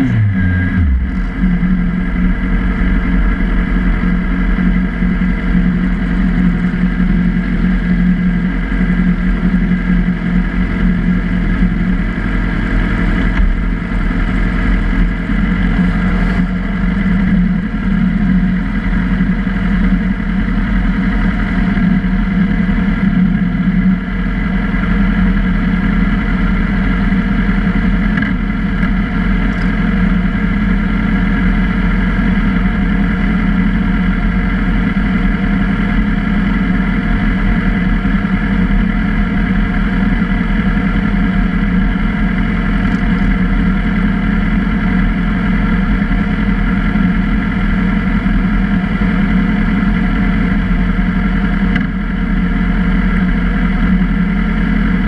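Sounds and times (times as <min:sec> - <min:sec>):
motorcycle engines idling: 0:00.0 - 0:55.0.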